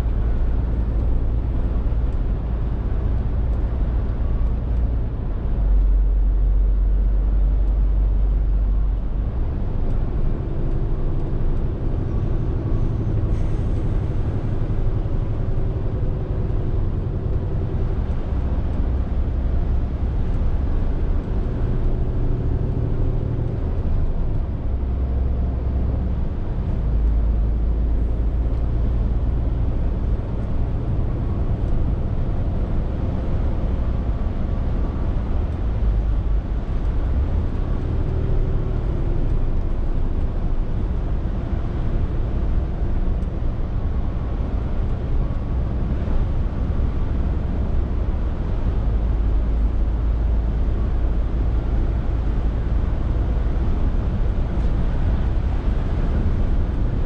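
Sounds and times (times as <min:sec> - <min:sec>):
lorry diesel engine droning: 0:00.0 - 0:57.0
road noise: 0:00.0 - 0:57.0.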